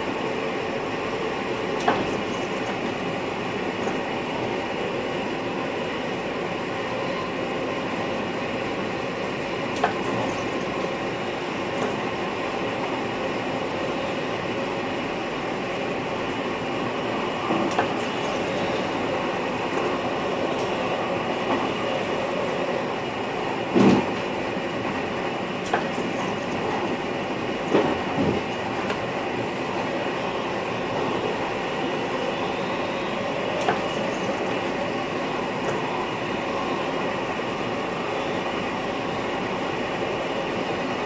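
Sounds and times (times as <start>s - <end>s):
train running rumble: 0.0s - 41.0s.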